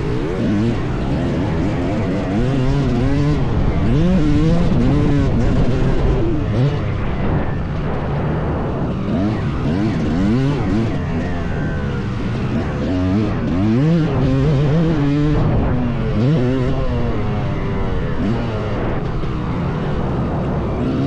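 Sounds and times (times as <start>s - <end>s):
two-stroke dirt bike engine revving: 0.0s - 21.0s.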